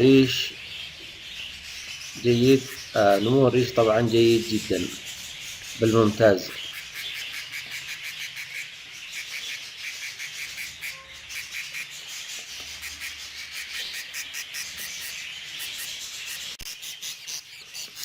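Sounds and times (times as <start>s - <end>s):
budgerigar chicks chirping: 0.0s - 18.0s.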